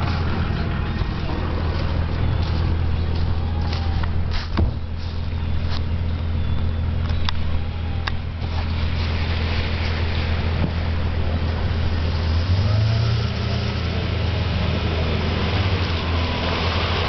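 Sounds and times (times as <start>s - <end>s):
car engine droning: 0.0s - 17.0s
water splashing and rushing: 0.0s - 17.0s.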